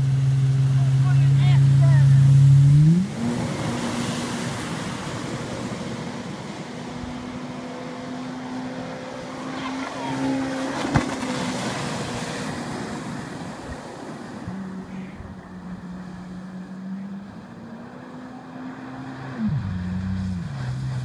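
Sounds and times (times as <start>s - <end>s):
rushing spray and wind: 0.0s - 17.3s
jet ski engine whining: 0.0s - 21.0s.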